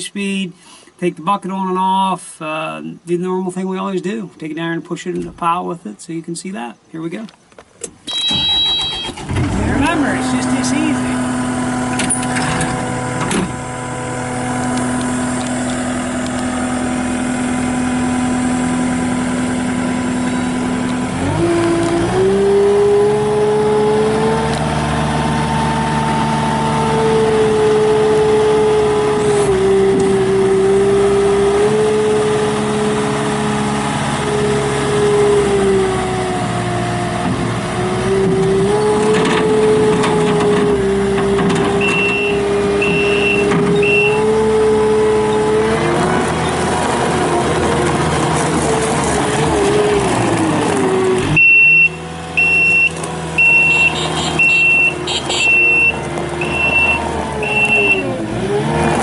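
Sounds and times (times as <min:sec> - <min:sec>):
diesel engine idling and revving: 0:08.1 - 0:59.0.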